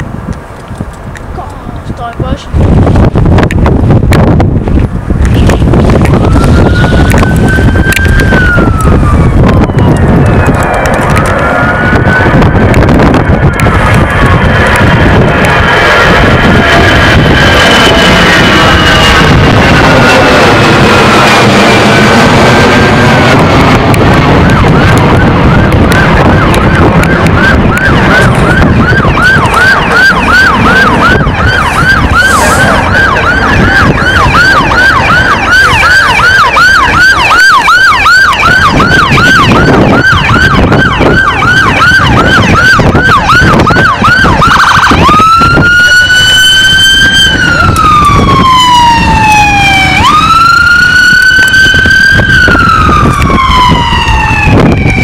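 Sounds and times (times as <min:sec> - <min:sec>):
fire engine electronic siren: 0:00.1 - 0:55.0.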